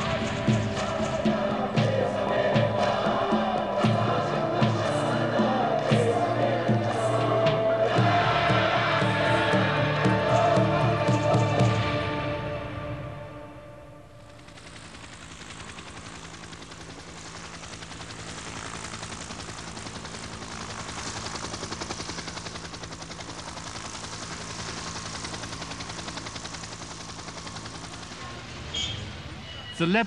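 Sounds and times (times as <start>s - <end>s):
helicopter rotor blades beating: 0.0s - 30.0s
low hum: 0.0s - 30.0s.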